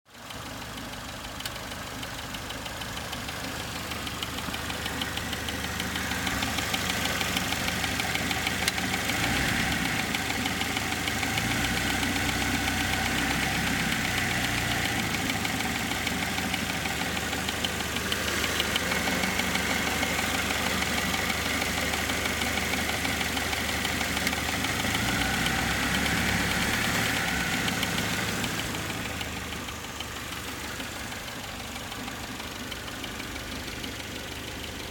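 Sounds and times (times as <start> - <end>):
car engine idling: 0.1 - 34.9
rapid engine ticking: 0.1 - 34.9.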